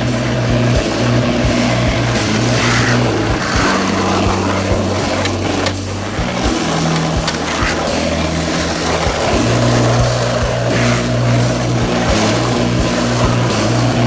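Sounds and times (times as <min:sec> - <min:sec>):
low bass music notes: 0:00.0 - 0:14.0
skateboard wheels on rough tarmac: 0:00.0 - 0:14.0.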